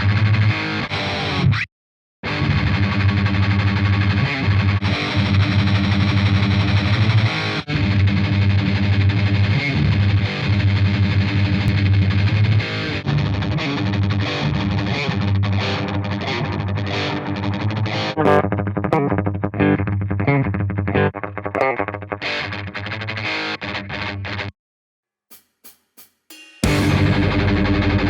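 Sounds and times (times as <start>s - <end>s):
distorted electric guitar riffing: 0.0s - 1.6s, 2.2s - 24.5s, 26.6s - 28.0s.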